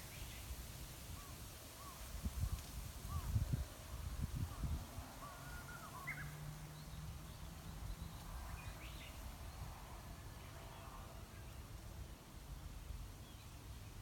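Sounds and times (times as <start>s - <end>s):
leaves rustling in wind: 0.0s - 14.0s.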